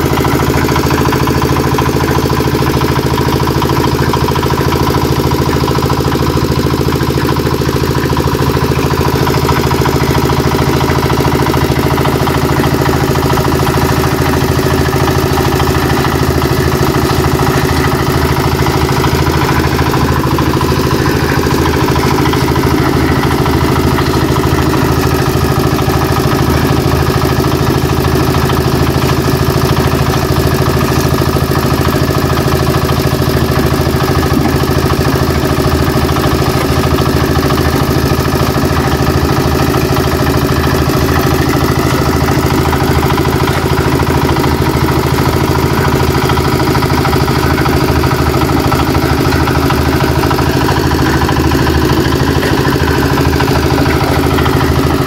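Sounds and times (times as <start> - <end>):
concrete mixer engine running: 0.0 - 55.0.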